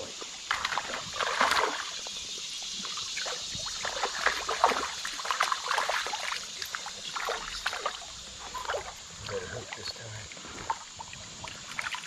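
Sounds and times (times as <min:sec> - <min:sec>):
flowing water rushing: 0:00.0 - 0:12.0
water splashing: 0:00.0 - 0:12.0.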